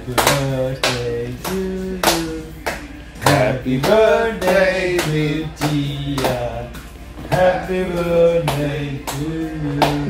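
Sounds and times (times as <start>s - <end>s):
hand clapping in time: 0.0s - 10.0s
people singing together: 0.0s - 10.0s.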